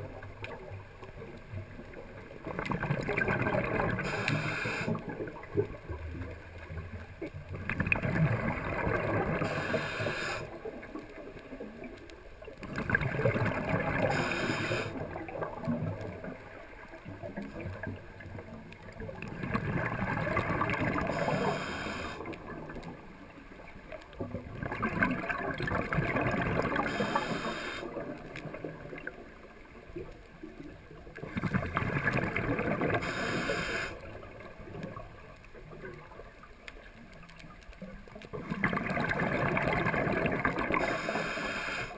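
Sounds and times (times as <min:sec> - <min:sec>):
diver's bubbles gurgling: 0:00.0 - 0:41.9.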